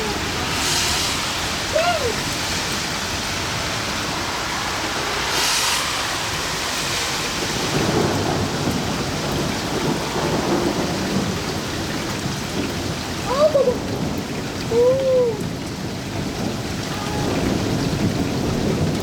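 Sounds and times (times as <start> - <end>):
steady rain falling: 0.0 - 19.0
thunder rumbling: 0.0 - 19.0.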